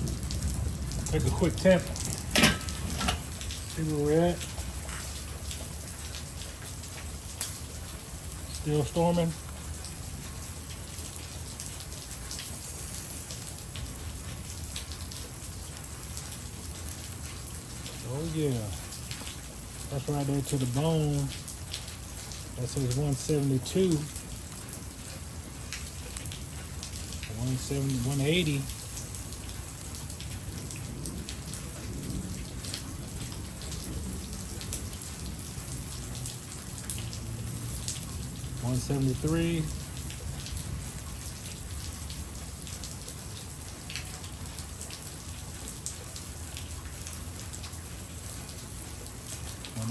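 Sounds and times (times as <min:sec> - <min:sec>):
steady downpour of rain: 0:00.0 - 0:49.9.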